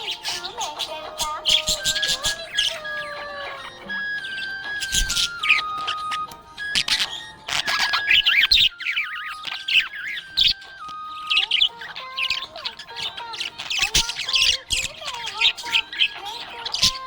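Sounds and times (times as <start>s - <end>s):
budgerigar chirping and warbling: 0.0s - 17.0s.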